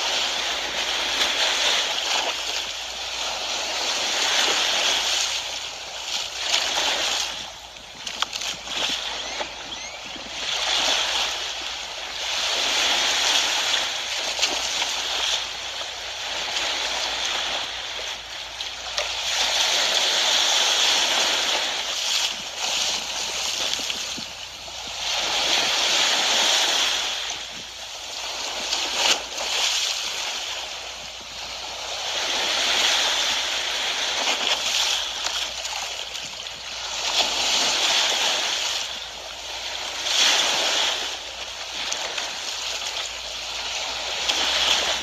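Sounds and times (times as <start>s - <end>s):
sea waves splashing: 0.0s - 45.0s.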